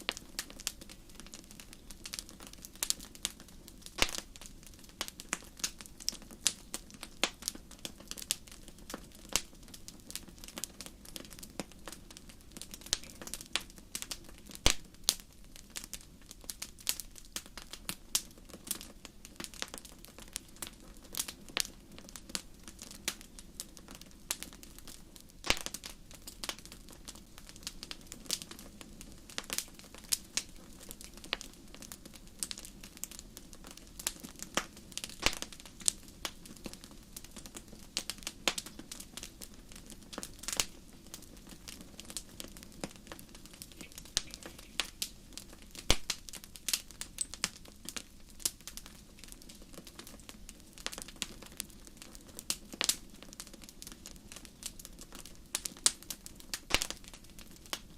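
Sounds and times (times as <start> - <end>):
campfire crackling: 0.0 - 57.9
hiss of burning wood: 0.0 - 57.9.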